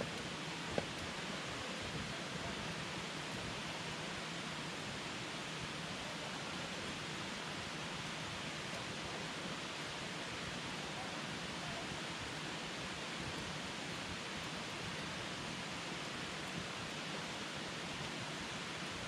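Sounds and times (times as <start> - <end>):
campfire burning: 0.0 - 19.0.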